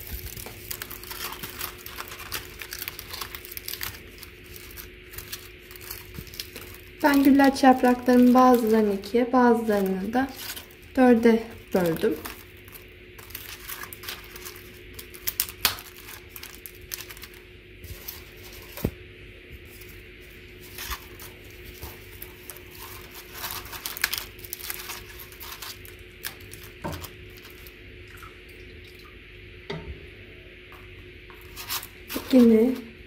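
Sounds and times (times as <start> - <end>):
dry wafer sheets crackling: 0.0 - 19.0, 19.7 - 27.8, 31.3 - 33.0.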